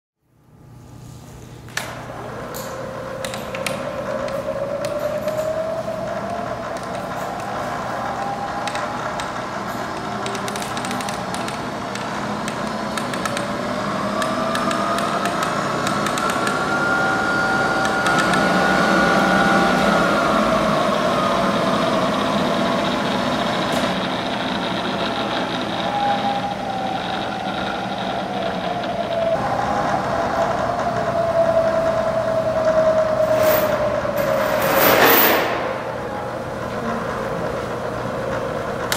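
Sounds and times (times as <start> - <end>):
milling machine whine: 1.7 - 38.9.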